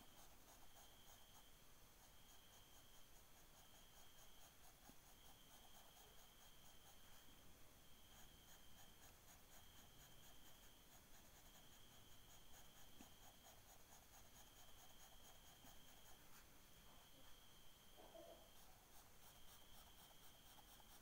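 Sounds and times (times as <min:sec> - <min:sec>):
pencil scratching on paper: 0:00.0 - 0:16.5, 0:18.1 - 0:21.0
faint high-pitched whine: 0:00.0 - 0:21.0.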